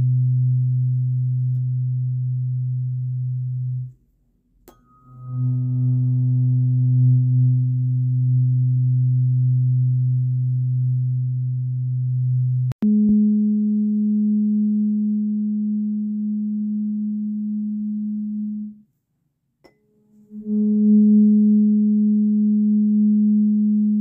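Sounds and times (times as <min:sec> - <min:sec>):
tuning fork higher tone: 0:00.0 - 0:03.9, 0:04.7 - 0:18.8, 0:19.6 - 0:24.0
tuning fork low tone: 0:00.0 - 0:04.0, 0:04.6 - 0:18.9, 0:19.6 - 0:24.0.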